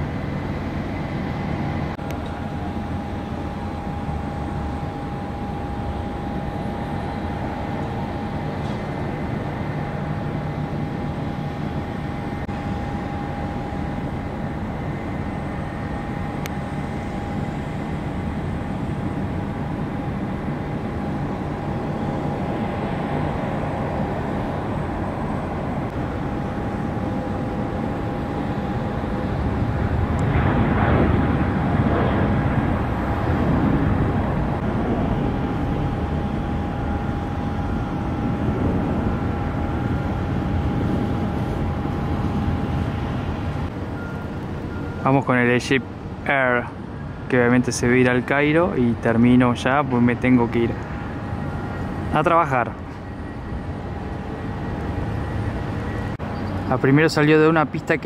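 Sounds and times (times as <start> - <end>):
jet engine high whine: 0.0 - 58.0
jet engines rushing: 0.0 - 58.0.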